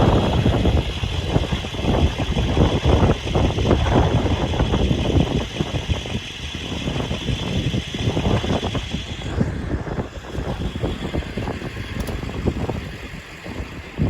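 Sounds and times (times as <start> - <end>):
vehicle engine knocking: 0.0 - 14.0.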